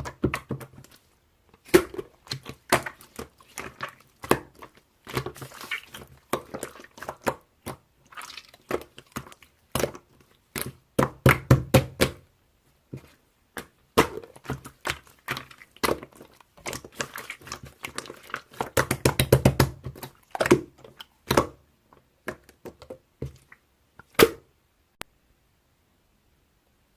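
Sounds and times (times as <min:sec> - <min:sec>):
slime squishing with sticky pops: 0:00.0 - 0:24.5.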